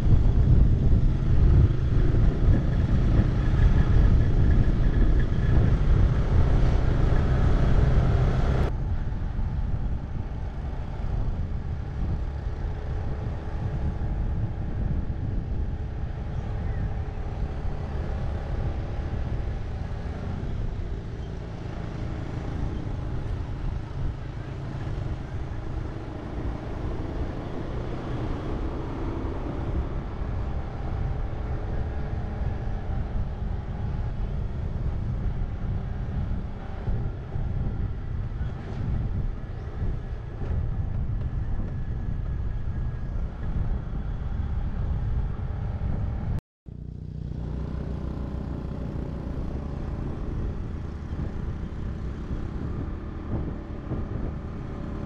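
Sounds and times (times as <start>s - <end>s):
vehicle low rumble: 0.0s - 55.0s.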